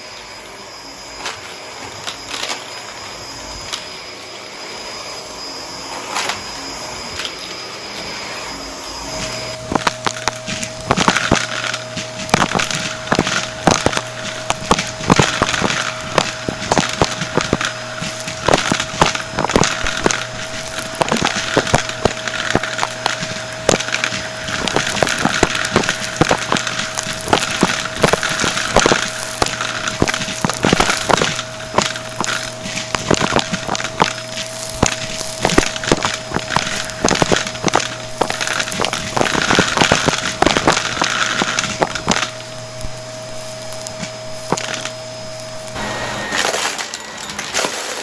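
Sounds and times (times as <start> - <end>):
vacuum cleaner running: 0.0 - 48.0
coins clattering through vacuum: 9.0 - 48.0.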